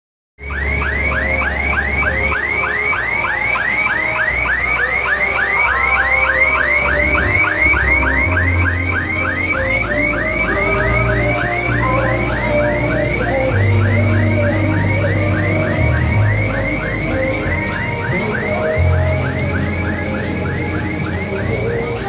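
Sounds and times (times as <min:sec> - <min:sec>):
alarm tone sweeping down: 0:00.4 - 0:22.0
music with bass line: 0:00.4 - 0:22.0.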